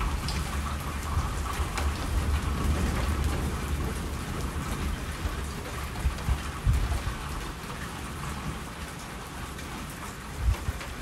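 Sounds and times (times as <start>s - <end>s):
heavy rainfall: 0.0s - 11.0s.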